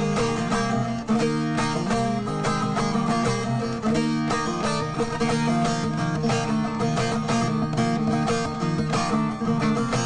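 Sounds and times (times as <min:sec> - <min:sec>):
lute strummed fast: 0:00.0 - 0:10.0.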